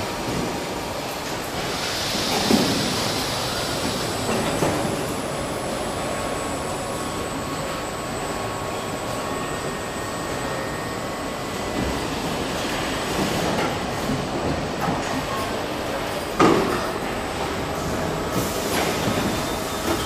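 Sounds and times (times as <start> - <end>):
machinery noise: 0.0 - 20.0.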